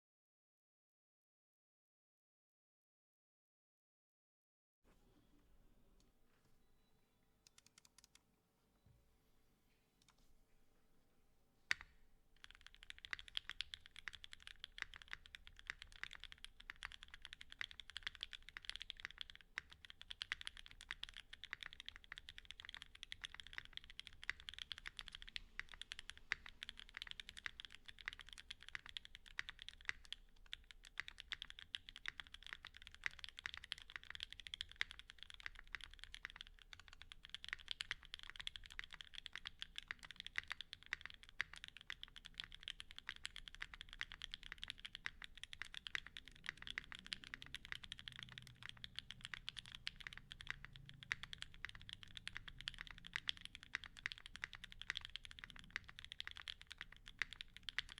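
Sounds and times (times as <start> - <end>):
mechanical keyboard typing: 7.4 - 8.2, 11.7 - 57.9.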